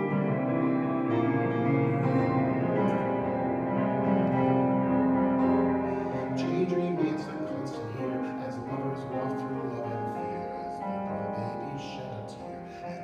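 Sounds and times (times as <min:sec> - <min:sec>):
electronic keyboard piano chords: 0:00.0 - 0:13.0.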